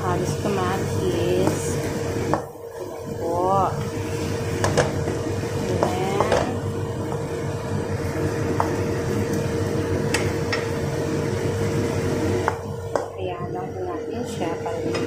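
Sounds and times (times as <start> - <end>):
constant hum: 0.0 - 15.0
food sizzling in a wok: 0.0 - 15.0.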